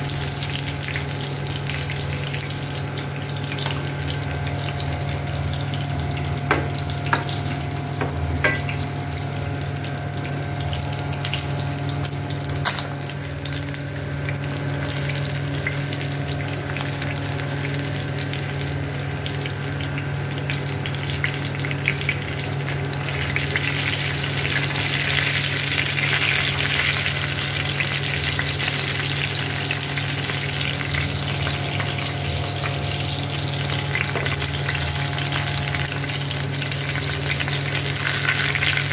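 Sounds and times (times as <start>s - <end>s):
fish sizzling in oil: 0.0s - 38.9s.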